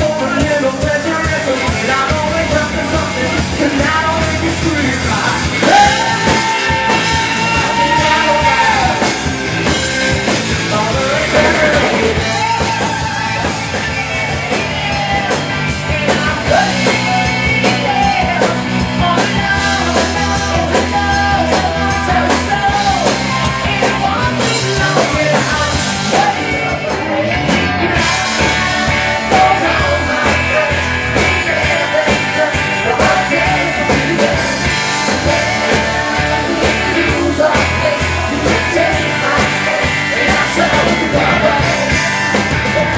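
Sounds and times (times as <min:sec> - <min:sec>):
bass guitar: 0:00.0 - 0:42.9
drums: 0:00.0 - 0:42.9
electric guitar: 0:00.0 - 0:42.9
male lead singer: 0:00.0 - 0:42.9.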